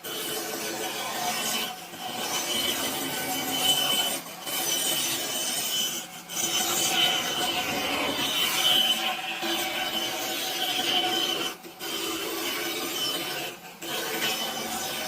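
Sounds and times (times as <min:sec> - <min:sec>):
tool scraping material: 0:00.0 - 0:15.0.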